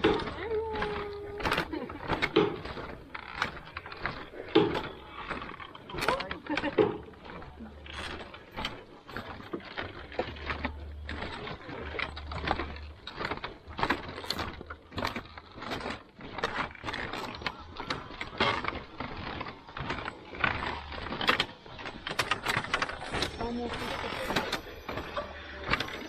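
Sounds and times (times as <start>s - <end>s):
footsteps on bamboo walkway: 0.0s - 26.0s.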